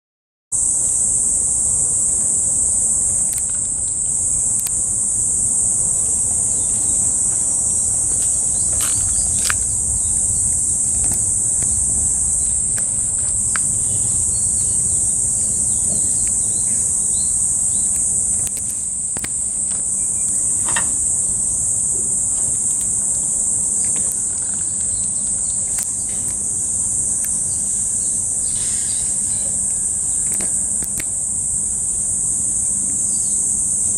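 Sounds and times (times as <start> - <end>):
high-pitched insect drone: 0.6 - 33.9.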